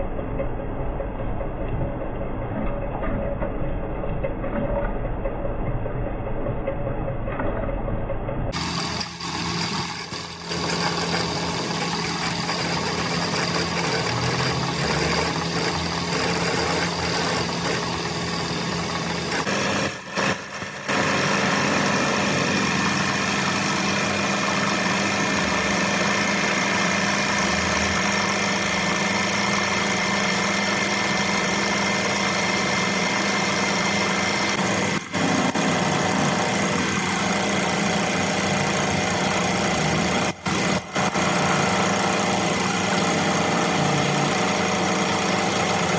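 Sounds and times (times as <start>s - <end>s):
workshop machine humming: 8.5s - 45.9s.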